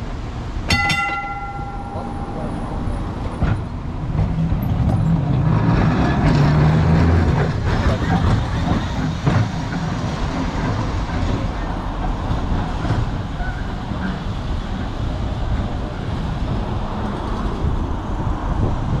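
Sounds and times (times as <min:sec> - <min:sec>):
street traffic rumble: 0:00.0 - 0:19.0
tram running on rails: 0:00.0 - 0:19.0.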